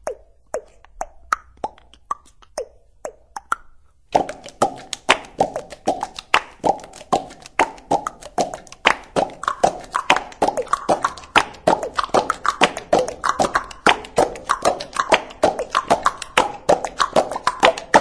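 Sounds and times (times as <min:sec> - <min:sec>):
rhythmic percussive clicks and pops: 0:00.0 - 0:18.0.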